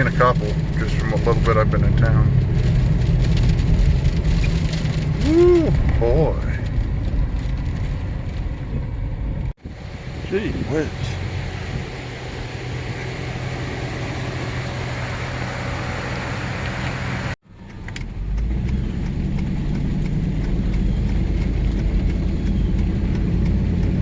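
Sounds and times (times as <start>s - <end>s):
car engine and tyres while driving: 0.0s - 24.0s.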